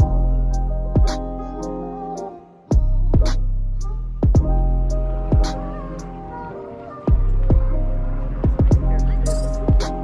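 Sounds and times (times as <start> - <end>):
instrumental beat music: 0.0 - 6.4, 7.0 - 10.0.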